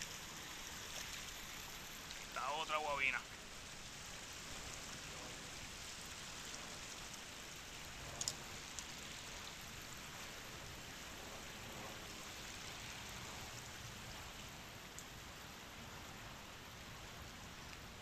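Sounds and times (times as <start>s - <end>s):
creek water running over stones: 0.0s - 18.0s.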